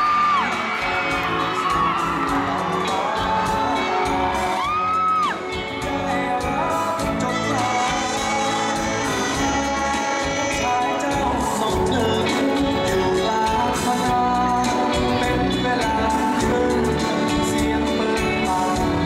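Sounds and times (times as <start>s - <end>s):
instrumental accompaniment: 0.0s - 19.0s
man singing: 0.0s - 19.0s.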